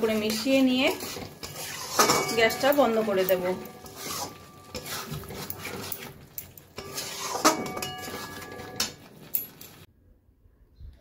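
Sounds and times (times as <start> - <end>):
thick curry stirring: 0.0 - 9.9
utensil scraping metal pan: 0.0 - 9.9.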